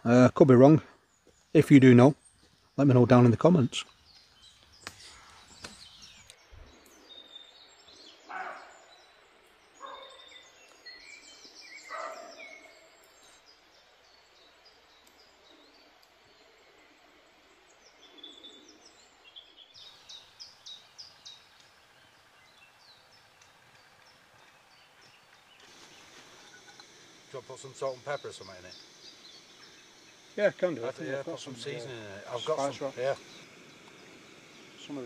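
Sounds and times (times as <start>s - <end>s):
birds chirping and singing: 0.0s - 35.0s
faint outdoor background: 0.0s - 35.0s.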